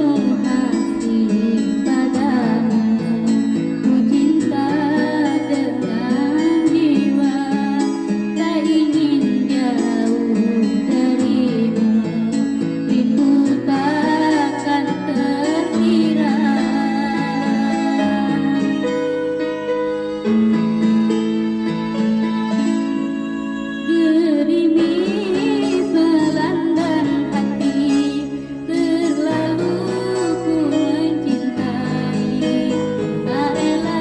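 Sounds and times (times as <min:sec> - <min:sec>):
girl singing a slow love song: 0:00.0 - 0:19.9, 0:23.2 - 0:34.0
instrumental backing music: 0:00.0 - 0:34.0.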